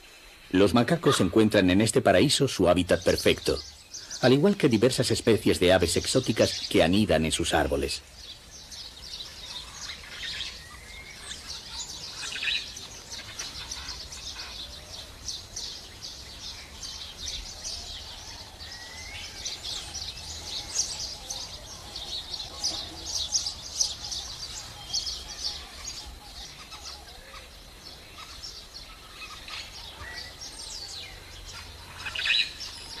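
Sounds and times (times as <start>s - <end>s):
birds chirping chorus: 0.0s - 33.0s.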